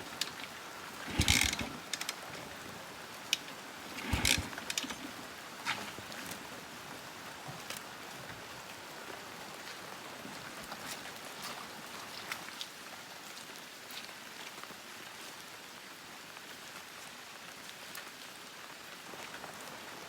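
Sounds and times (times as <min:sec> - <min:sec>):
rain-like hiss: 0:00.0 - 0:20.0.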